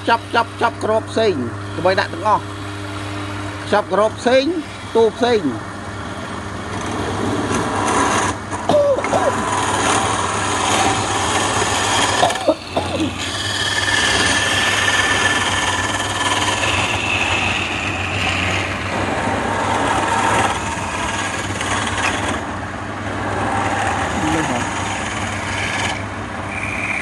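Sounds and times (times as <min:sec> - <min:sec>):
chisel scraping spinning wood: 0:00.0 - 0:08.4, 0:09.1 - 0:27.0
lathe motor hum: 0:00.0 - 0:27.0.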